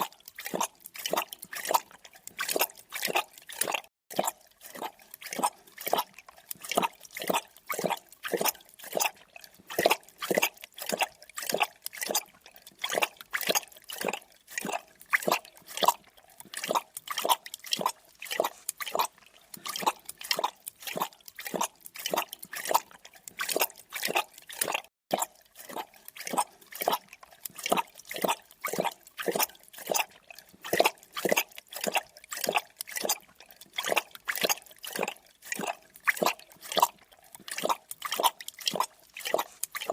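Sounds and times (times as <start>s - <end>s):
animal lapping and slurping: 0.0s - 39.9s.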